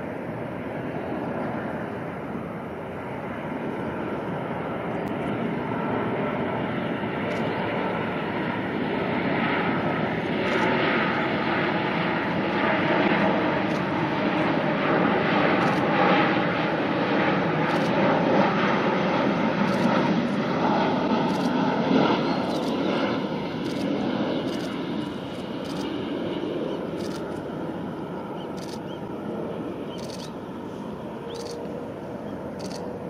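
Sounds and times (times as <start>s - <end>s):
airliner jet engine rumble: 0.0s - 33.0s.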